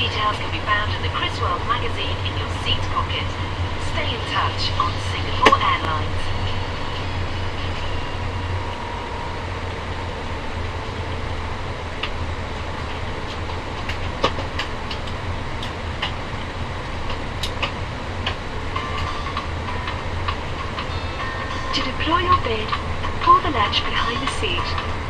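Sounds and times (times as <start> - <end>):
cabin low rumble: 0.0 - 25.0.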